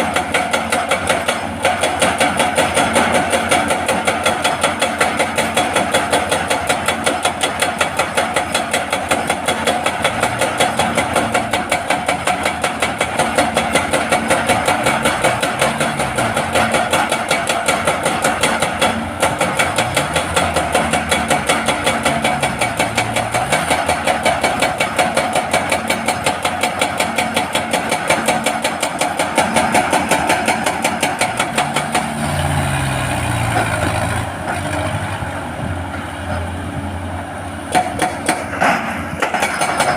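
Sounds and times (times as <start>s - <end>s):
hydraulic breaker hammer pounding rock: 0.0s - 32.8s, 37.6s - 39.9s
diesel engine running: 0.0s - 39.9s.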